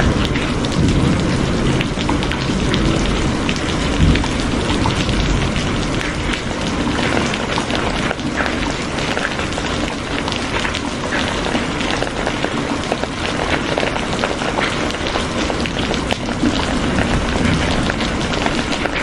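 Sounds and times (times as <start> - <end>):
rain falling: 0.0 - 19.0
raindrops ticking close by: 0.0 - 19.0.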